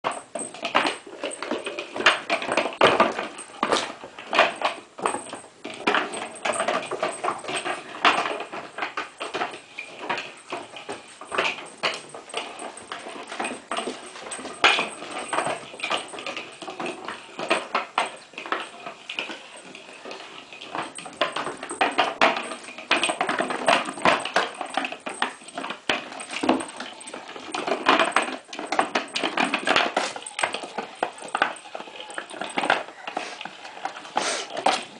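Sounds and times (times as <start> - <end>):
plastic toy clattering on floor: 0.1 - 34.9.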